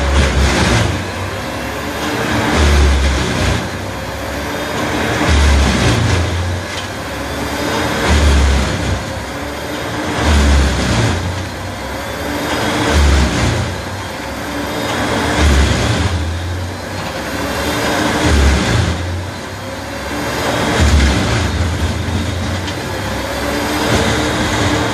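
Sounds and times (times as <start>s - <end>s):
chipper drum cutting wood: 0.0s - 24.9s
wood chipper engine under load: 0.0s - 24.9s.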